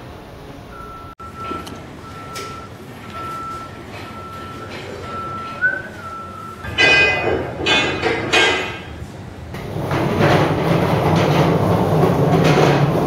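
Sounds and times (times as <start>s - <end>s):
metallic clanks: 1.2s - 13.0s.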